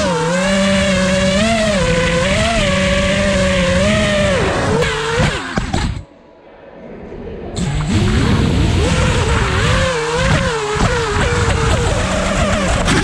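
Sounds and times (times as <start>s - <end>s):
quadcopter motors whining: 0.0s - 6.0s, 7.6s - 13.0s.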